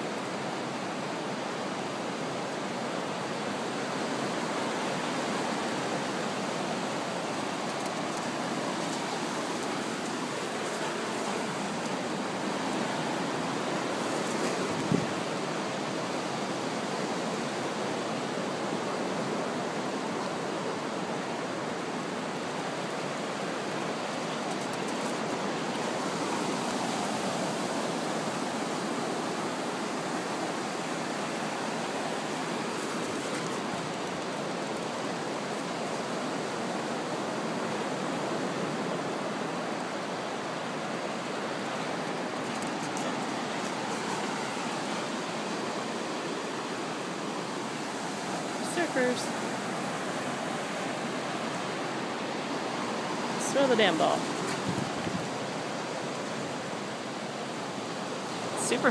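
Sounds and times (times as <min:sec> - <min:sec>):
ocean surf breaking: 0:03.8 - 0:58.9.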